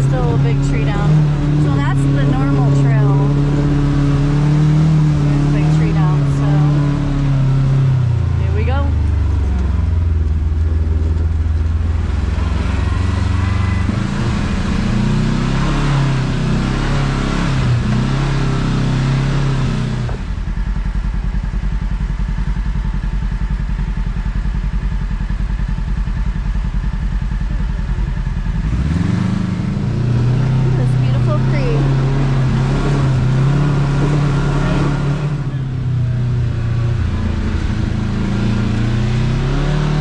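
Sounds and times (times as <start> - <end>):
engine revving and idling: 0.0 - 40.0.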